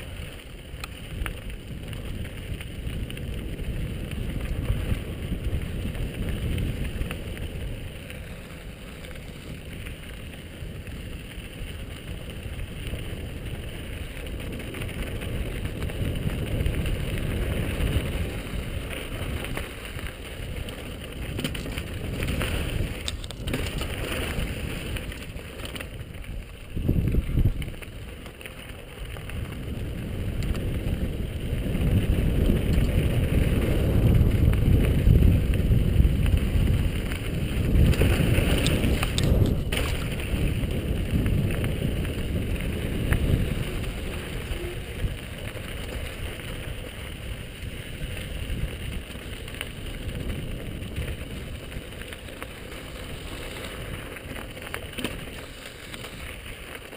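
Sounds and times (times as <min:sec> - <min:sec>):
wind buffeting microphone: 0:00.0 - 0:28.3, 0:29.0 - 0:56.9
bike rattling over rocks: 0:00.0 - 0:56.9
tyres crunching on gravel: 0:00.0 - 0:56.9.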